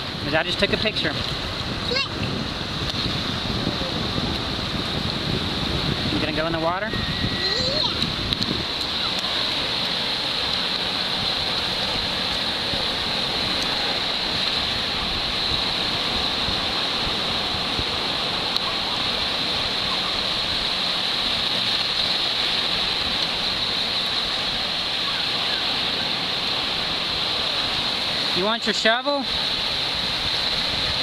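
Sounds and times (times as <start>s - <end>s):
small waves breaking on shore: 0.0s - 31.0s.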